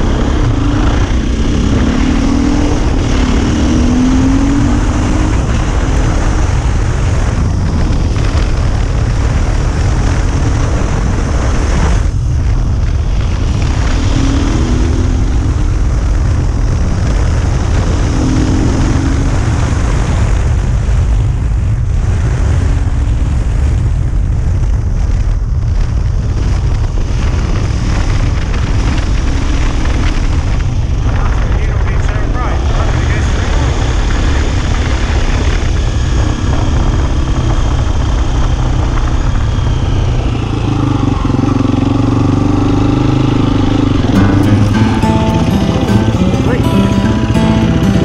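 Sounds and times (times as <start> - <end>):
dirt bike engine rumbling: 0.0 - 48.0.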